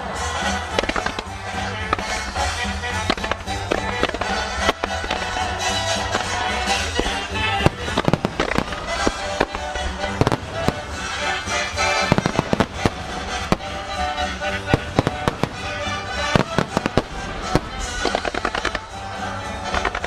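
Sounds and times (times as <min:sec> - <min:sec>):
music playing: 0:00.0 - 0:20.0
firework shells bursting: 0:00.8 - 0:20.0.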